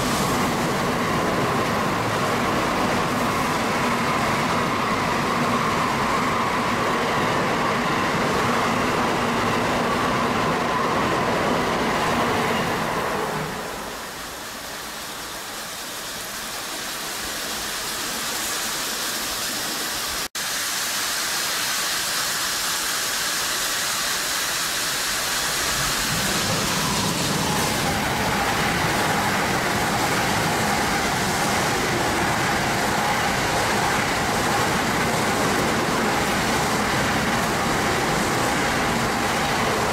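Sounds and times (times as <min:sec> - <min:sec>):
train running noise: 0:00.0 - 0:39.9.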